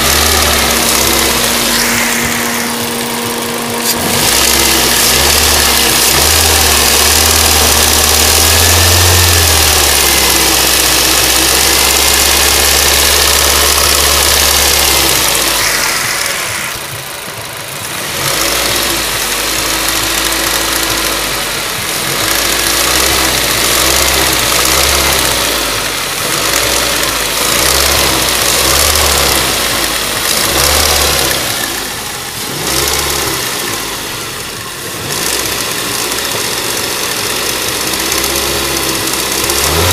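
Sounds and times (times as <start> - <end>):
car engine knocking and clattering: 0.0 - 1.5, 3.2 - 16.0, 16.9 - 39.9.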